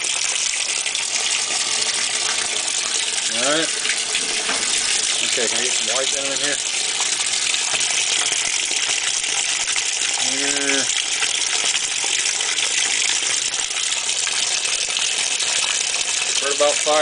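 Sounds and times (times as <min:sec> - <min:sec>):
water pouring into washing machine: 0:00.0 - 0:17.0.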